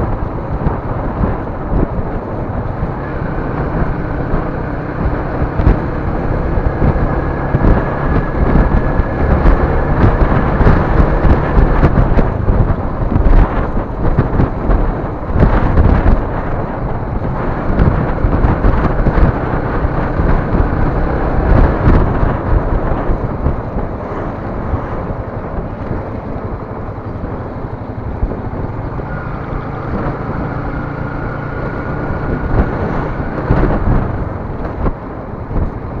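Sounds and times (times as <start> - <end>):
vehicle road and engine rumble: 0.0 - 36.0.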